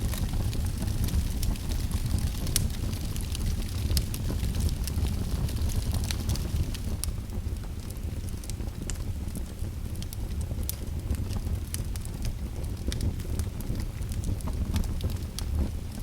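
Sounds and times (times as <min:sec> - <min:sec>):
fire flames roaring: 0:00.0 - 0:16.0
wood crackling and popping: 0:00.0 - 0:16.0.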